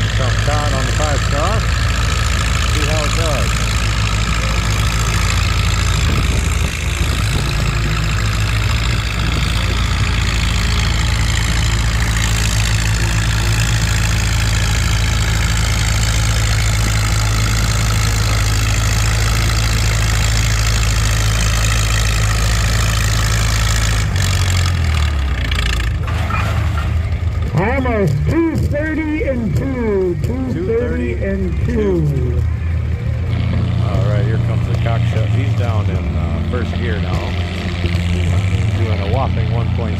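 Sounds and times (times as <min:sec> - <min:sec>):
tractor engine under heavy load: 0:00.0 - 0:39.9.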